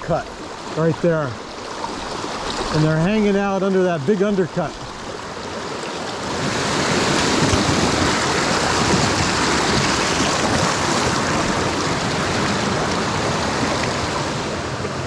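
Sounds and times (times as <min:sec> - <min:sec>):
fast-flowing stream water: 0:00.0 - 0:15.0.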